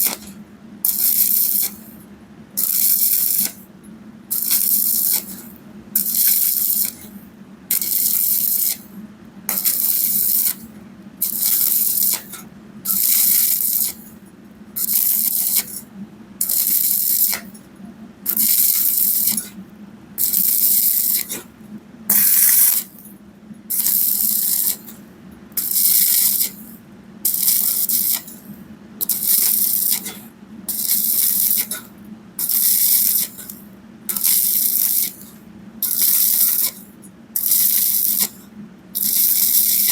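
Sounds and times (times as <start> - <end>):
welding arc crackling and hissing: 0.0 - 2.0, 2.6 - 3.6, 4.3 - 14.2, 14.8 - 17.6, 18.3 - 19.6, 20.2 - 23.1, 23.7 - 38.4, 39.0 - 39.9
steady low hum: 0.0 - 39.9.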